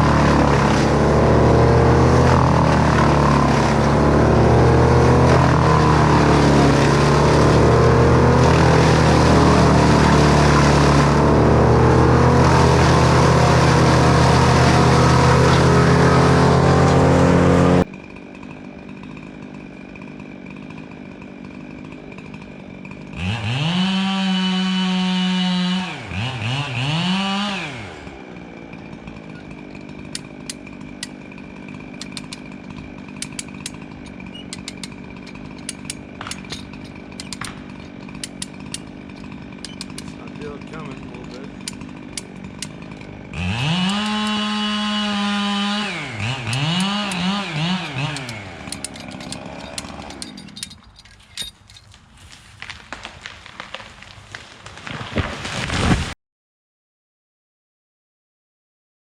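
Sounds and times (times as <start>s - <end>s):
chainsaw revving: 0.0s - 50.9s
chainsaw running: 0.0s - 56.0s.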